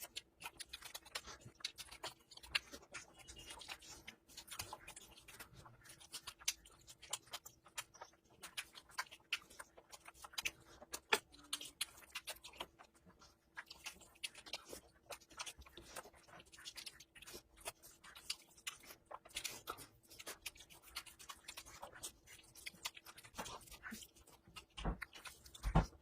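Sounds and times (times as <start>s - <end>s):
wet chewing and lip-smacking: 0.0s - 26.0s.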